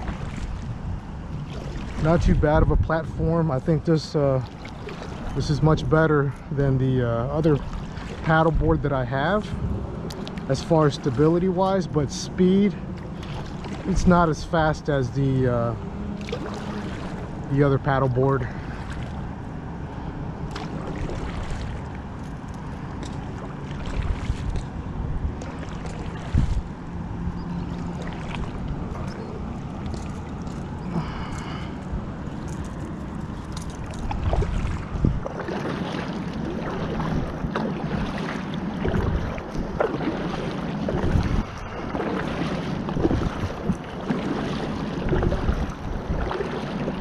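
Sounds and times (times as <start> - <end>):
paddle splashing and dripping: 0.0 - 2.4, 3.0 - 47.0
wind rumbling on microphone: 0.0 - 47.0.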